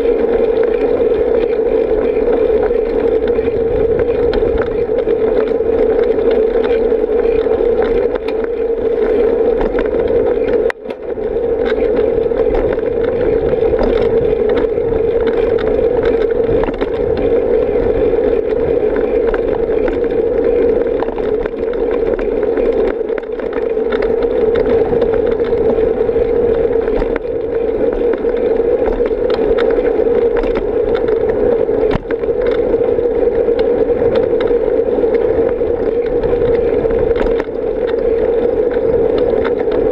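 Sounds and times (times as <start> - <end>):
road noise: 0.0 - 39.9
wind rush: 0.0 - 39.9.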